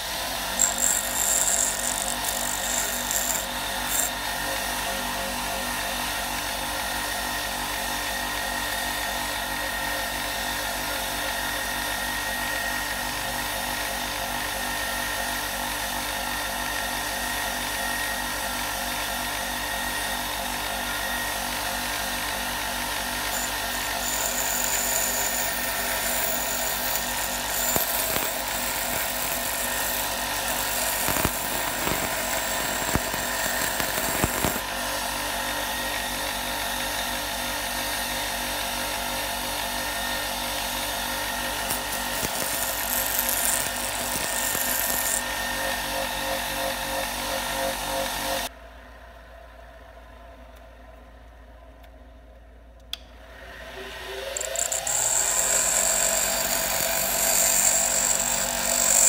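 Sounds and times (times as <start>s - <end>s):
small power tool motor running: 0.0s - 48.5s, 53.7s - 59.0s.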